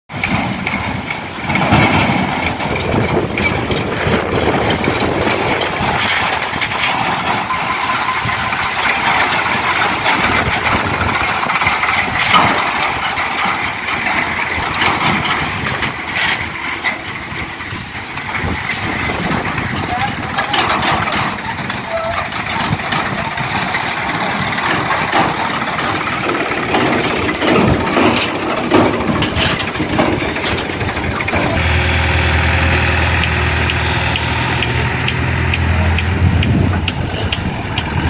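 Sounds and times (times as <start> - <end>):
tractor engine running: 0.1 - 38.0.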